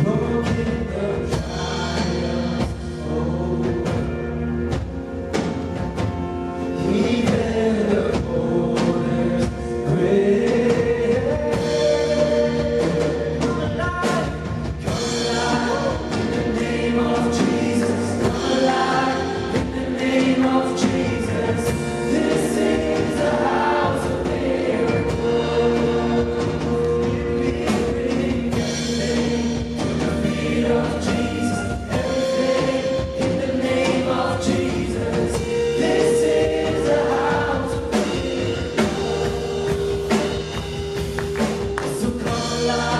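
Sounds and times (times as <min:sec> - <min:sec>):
group of voices singing: 0:00.0 - 0:05.0, 0:06.6 - 0:42.9
drum strokes: 0:03.8 - 0:42.9.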